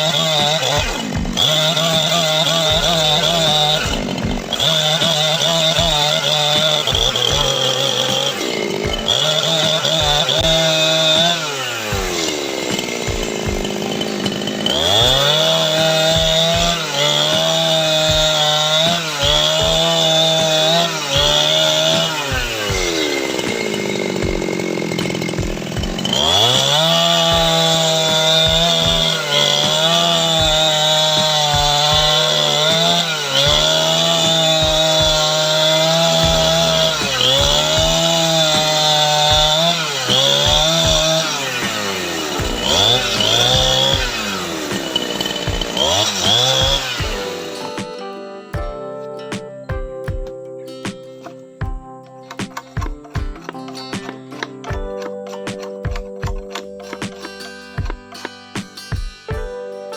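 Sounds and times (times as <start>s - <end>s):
chainsaw cutting timber: 0.0s - 48.9s, 50.9s - 59.9s.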